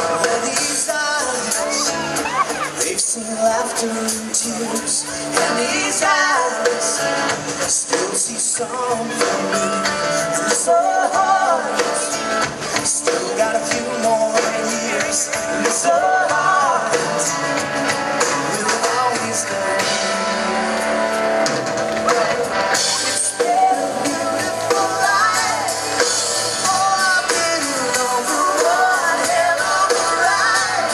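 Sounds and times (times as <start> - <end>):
person singing: 0.0 - 21.2, 22.0 - 30.9
bass guitar: 0.0 - 30.9
drum kit: 0.0 - 30.9
electric guitars: 0.0 - 30.9.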